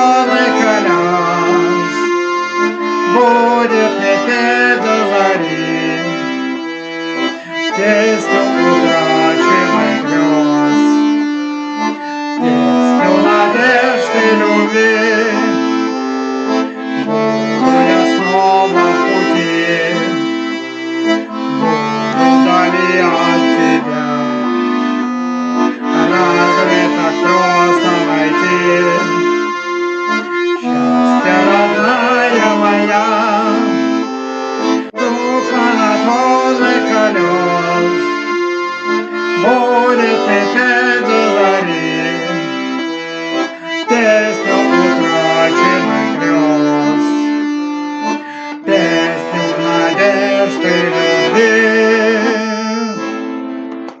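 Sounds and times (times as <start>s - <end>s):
accordion playing: 0.0s - 54.0s.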